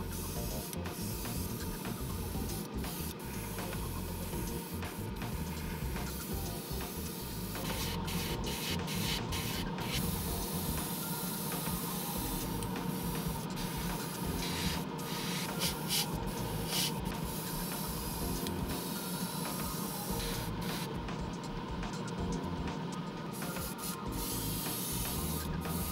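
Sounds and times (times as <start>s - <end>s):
airbrush spraying hiss: 0.0s - 22.0s, 23.2s - 25.9s.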